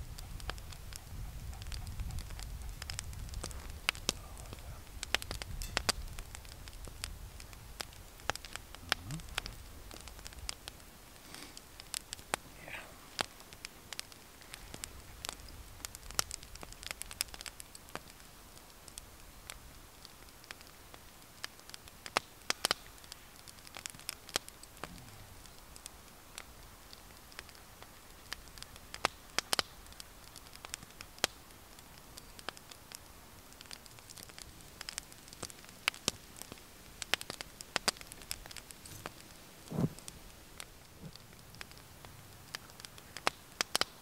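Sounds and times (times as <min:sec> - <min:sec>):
fire snaps and pops: 0:00.0 - 0:44.0
wood fire crackling: 0:00.0 - 0:44.0.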